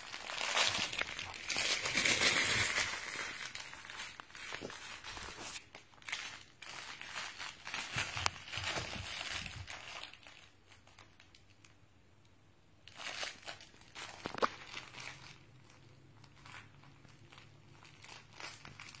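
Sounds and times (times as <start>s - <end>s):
crinkle toy crinkling: 0.0s - 11.9s, 12.8s - 19.0s.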